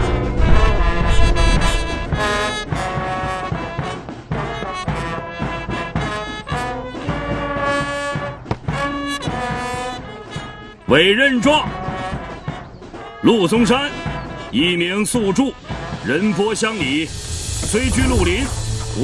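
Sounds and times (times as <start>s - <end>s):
brass music: 0.0s - 19.0s.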